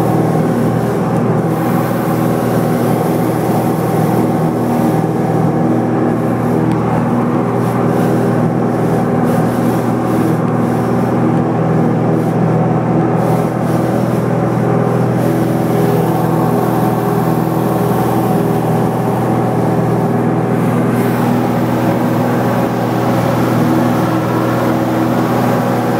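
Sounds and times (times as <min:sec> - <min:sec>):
small airplane engine droning: 0:00.0 - 0:25.9.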